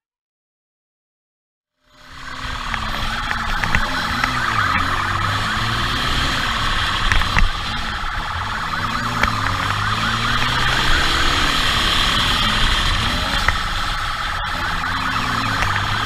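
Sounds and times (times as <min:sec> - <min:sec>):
police siren: 0:01.8 - 0:16.0
vehicle engine revving: 0:01.9 - 0:16.0.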